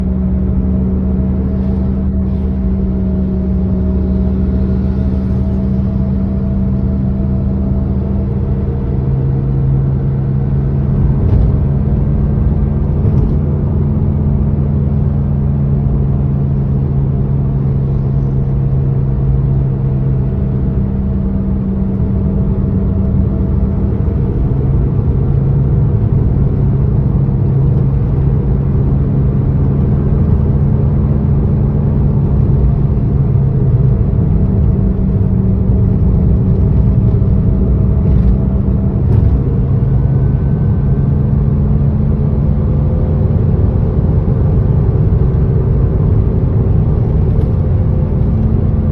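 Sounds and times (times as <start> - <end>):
loud droning car hum: 0.0 - 48.9.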